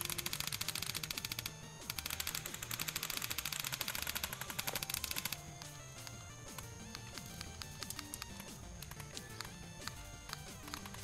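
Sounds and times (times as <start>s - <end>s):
fast rattle of sharp clicks: 0.0s - 11.0s.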